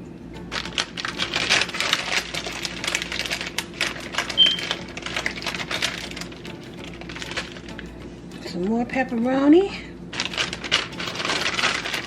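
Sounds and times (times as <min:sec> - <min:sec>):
clicking and crackling of food handling: 0:00.4 - 0:12.0.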